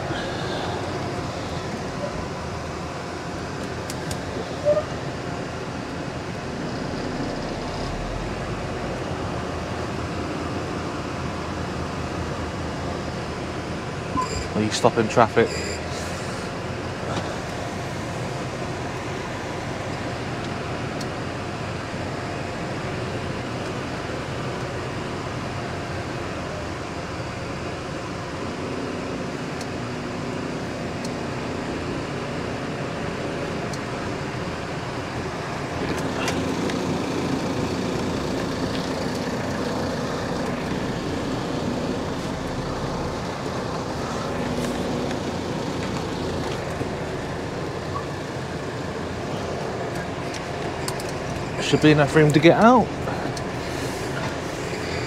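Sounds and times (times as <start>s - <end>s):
lorry engine running: 0.0s - 55.0s
road traffic noise: 0.0s - 55.0s.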